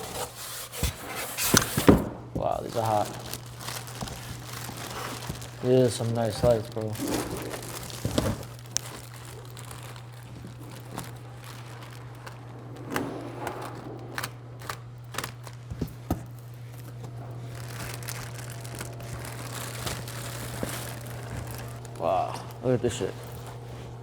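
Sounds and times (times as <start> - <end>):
plastic wrap crinkling: 0.0 - 24.0
steady low hum: 0.0 - 24.0.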